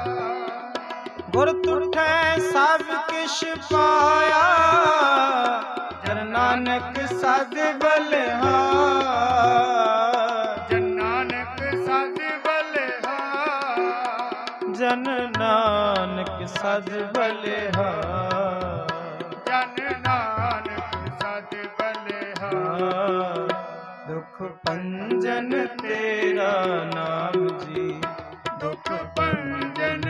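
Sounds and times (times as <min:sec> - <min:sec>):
harmonium: 0:00.0 - 0:30.0
man singing: 0:00.0 - 0:30.0
tabla beat: 0:00.0 - 0:30.0.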